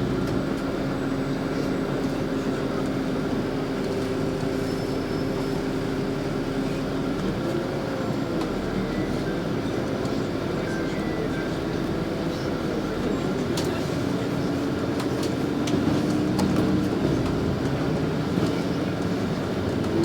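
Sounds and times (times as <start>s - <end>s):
bus engine hum: 0.0s - 20.0s
road and tyre noise: 0.0s - 20.0s.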